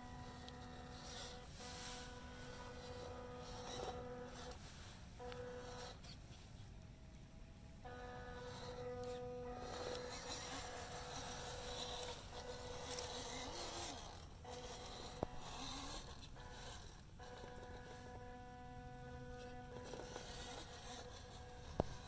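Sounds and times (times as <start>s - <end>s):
electric motor and gearbox whine: 0.0s - 22.0s.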